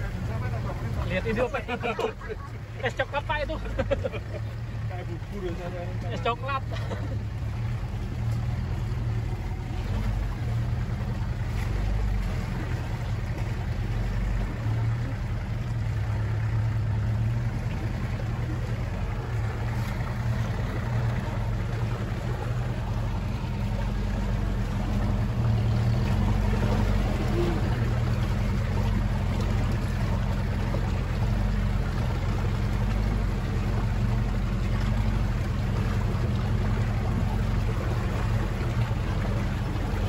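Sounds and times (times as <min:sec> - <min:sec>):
off-road vehicle engine droning: 0:00.0 - 0:40.0
road noise: 0:00.0 - 0:40.0.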